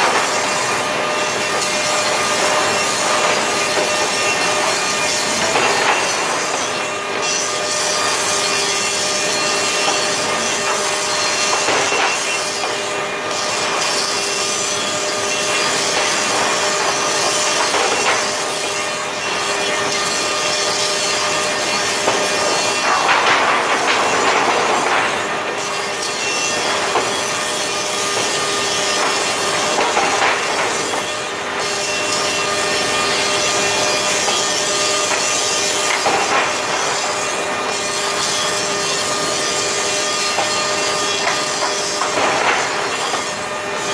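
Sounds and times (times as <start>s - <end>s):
constant machine hum: 0.0s - 43.9s
loud machine noise: 0.0s - 43.9s.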